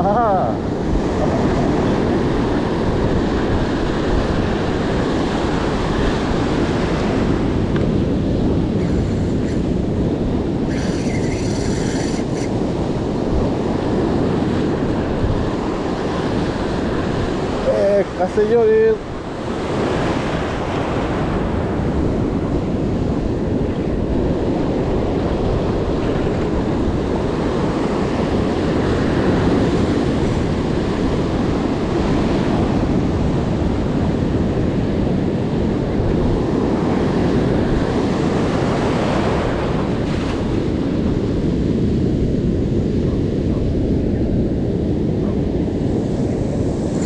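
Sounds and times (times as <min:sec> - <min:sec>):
ocean surf breaking on sand: 0:00.0 - 0:47.0
wind noise on microphone: 0:00.0 - 0:47.0.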